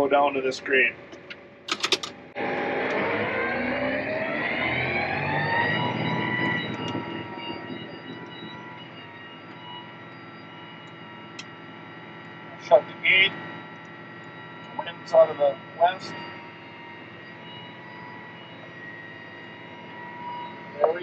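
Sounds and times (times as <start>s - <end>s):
tractor and ditcher whine: 0.0s - 21.0s.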